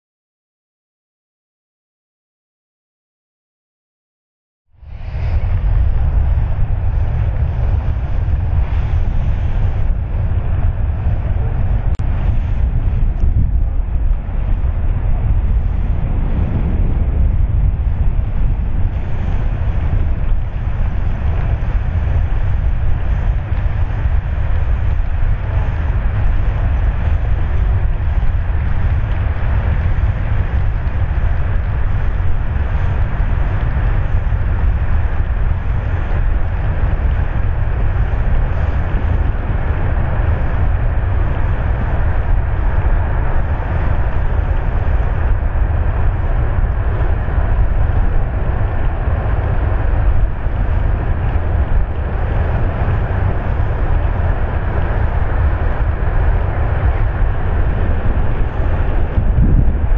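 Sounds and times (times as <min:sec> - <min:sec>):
wind buffeting microphone: 0:04.7 - 0:59.9.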